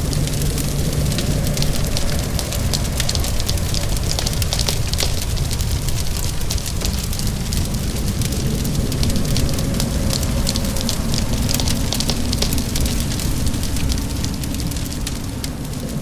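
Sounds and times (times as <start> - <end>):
rain hissing: 0.0 - 16.0
wood fire crackling: 0.0 - 16.0.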